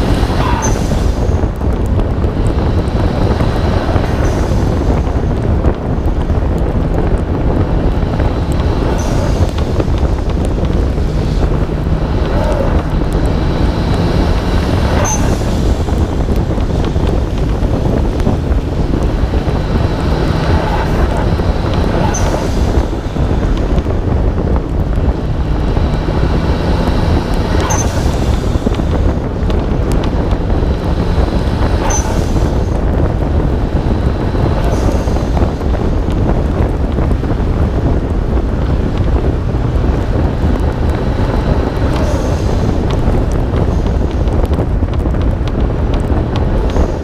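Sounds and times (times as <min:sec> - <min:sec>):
car engine running: 0:00.0 - 0:47.0
wet tyre noise: 0:00.0 - 0:47.0
wind buffeting camera: 0:00.0 - 0:47.0.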